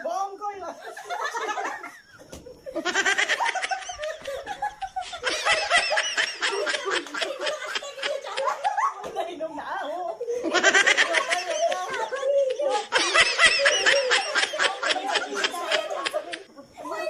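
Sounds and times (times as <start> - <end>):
group of people laughing: 0.7 - 17.0.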